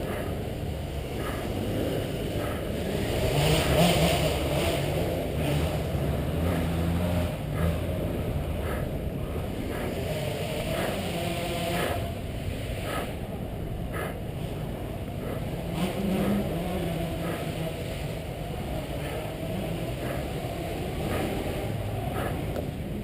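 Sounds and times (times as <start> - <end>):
motocross bike engine: 0.0 - 23.0.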